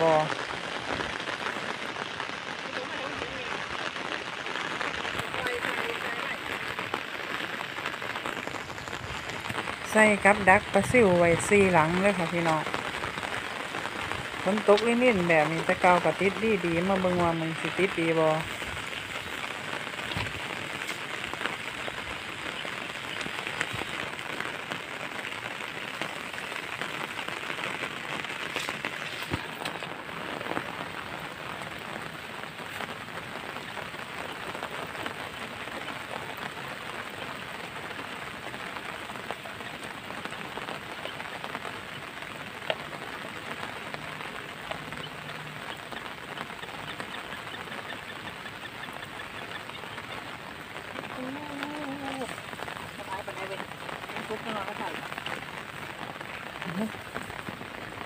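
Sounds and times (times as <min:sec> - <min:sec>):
light drizzle pattering: 0:00.0 - 0:58.0.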